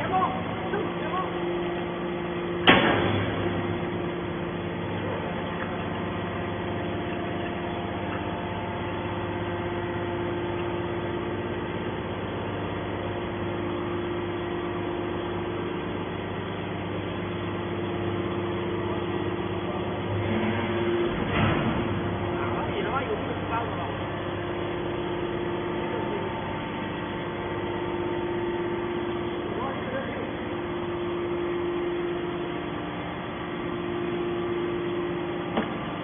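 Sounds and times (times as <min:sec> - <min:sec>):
hydraulic baler machine drone: 0:00.0 - 0:36.0.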